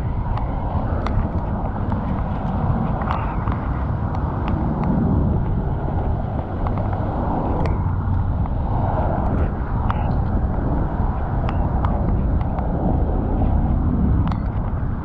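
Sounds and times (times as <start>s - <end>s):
city traffic noise: 0.0s - 15.0s
wind rumbling: 0.0s - 15.0s.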